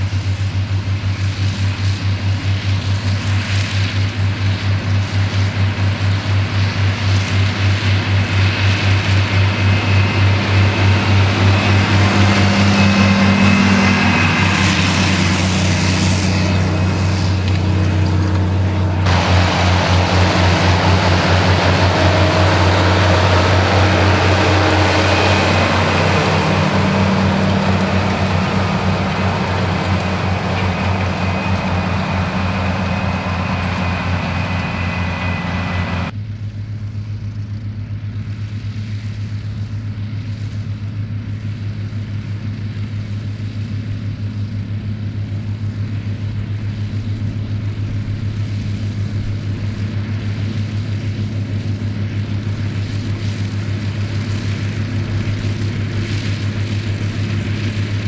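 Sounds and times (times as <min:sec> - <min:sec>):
tractor diesel engine droning: 0:00.0 - 0:36.2, 0:41.1 - 0:58.0.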